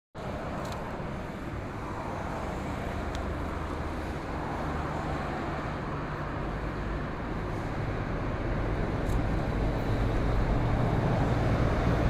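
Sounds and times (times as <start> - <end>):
distant freight train hum: 0.2 - 12.0
traffic rumble: 0.2 - 12.0.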